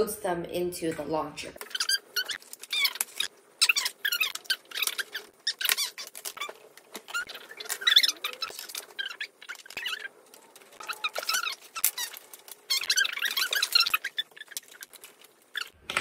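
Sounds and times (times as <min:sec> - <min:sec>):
wooden pieces squeaking and clicking: 0:01.6 - 0:16.0.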